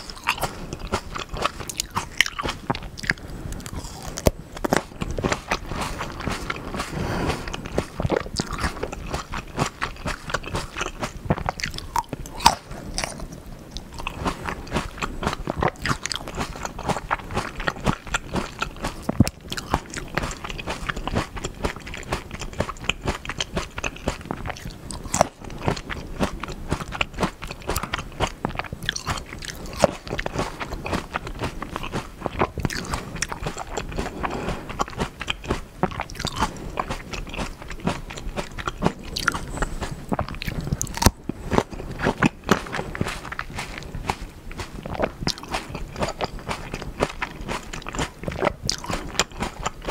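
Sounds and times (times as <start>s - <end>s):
biting into grapes: 0.0s - 49.9s
wet chewing: 0.0s - 49.9s.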